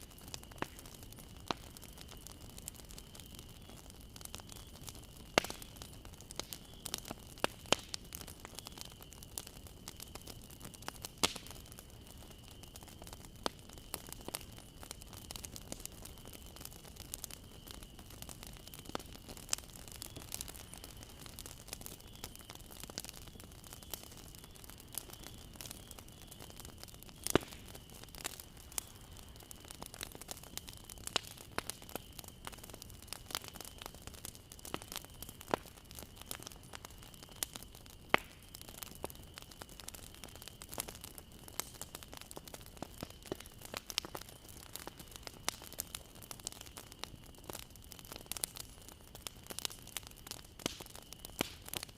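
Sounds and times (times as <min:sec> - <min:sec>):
bonfire crackling and popping: 0:00.0 - 0:51.9.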